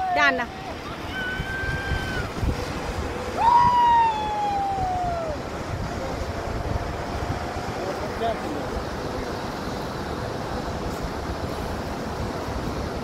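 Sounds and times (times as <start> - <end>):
river rushing over rocks: 0.0 - 13.0
wind on microphone: 0.0 - 13.0.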